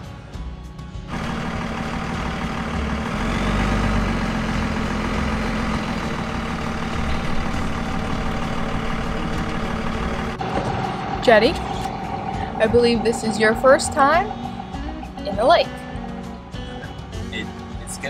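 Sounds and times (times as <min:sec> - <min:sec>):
truck engine from inside cab: 0:01.1 - 0:17.1.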